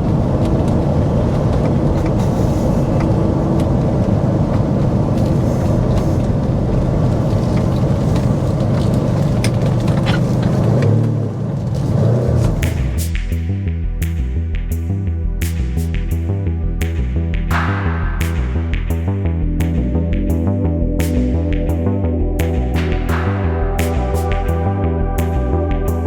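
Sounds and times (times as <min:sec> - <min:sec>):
sports car engine driving: 0:00.0 - 0:26.0.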